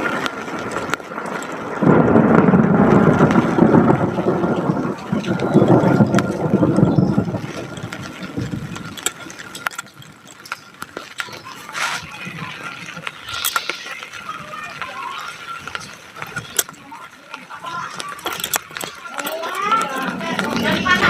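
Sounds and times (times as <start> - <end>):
rain falling: 0.0 - 21.0
sharp drip-like ticks: 0.1 - 21.0
faint voices: 3.4 - 21.0.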